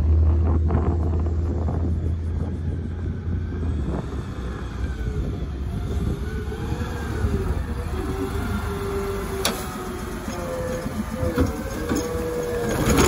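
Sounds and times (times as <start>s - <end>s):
garbage truck engine rumble: 0.0s - 13.0s.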